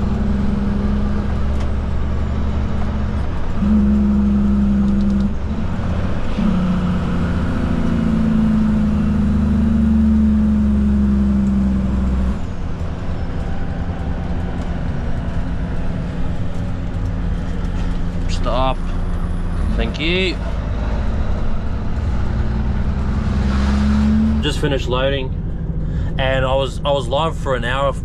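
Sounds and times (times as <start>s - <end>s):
truck diesel engine running: 0.0s - 28.0s.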